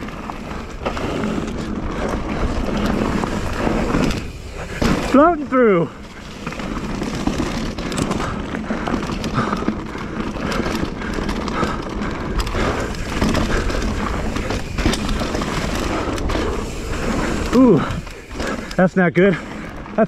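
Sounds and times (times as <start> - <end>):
chain and bike rattling: 0.0 - 20.0
tyres on dirt: 0.0 - 20.0.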